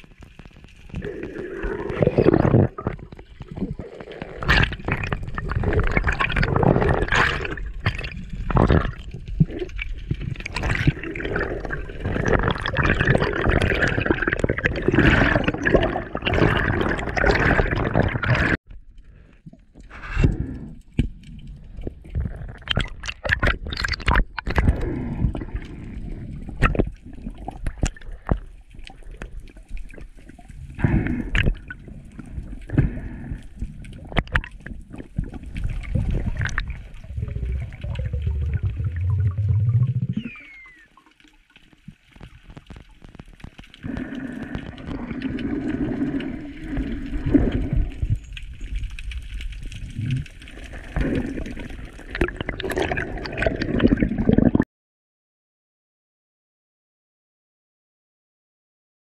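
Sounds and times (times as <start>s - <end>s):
water sloshing and gurgling: 0.0s - 54.6s.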